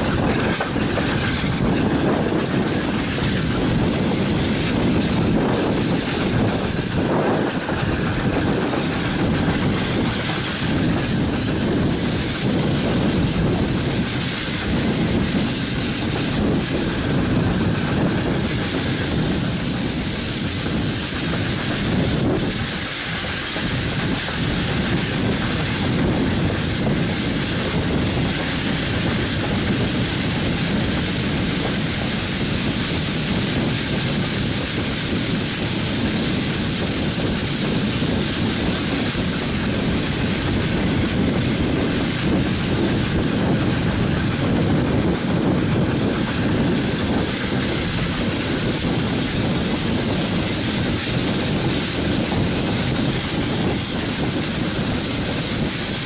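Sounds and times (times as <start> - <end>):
steam locomotive running: 0.0 - 56.0
train wheels on rails: 0.0 - 56.0
wind rushing over microphone: 0.0 - 56.0.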